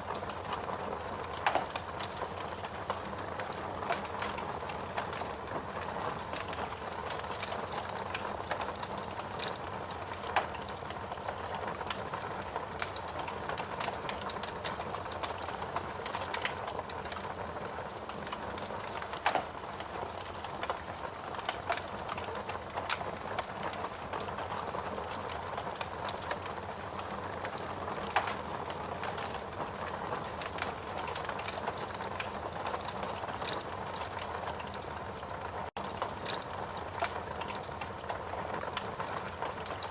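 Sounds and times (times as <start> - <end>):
log fire crackling: 0.0 - 39.9
fire pops: 0.4 - 34.8, 35.7 - 39.8.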